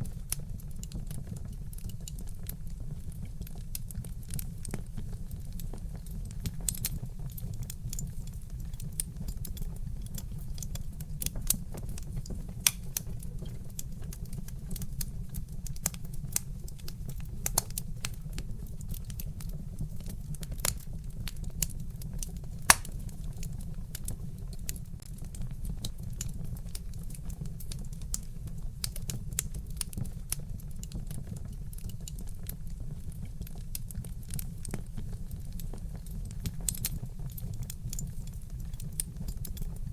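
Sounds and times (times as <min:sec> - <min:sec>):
low steady rumble: 0:00.0 - 0:30.2, 0:31.0 - 0:39.9
wood fire crackling: 0:00.0 - 0:39.9.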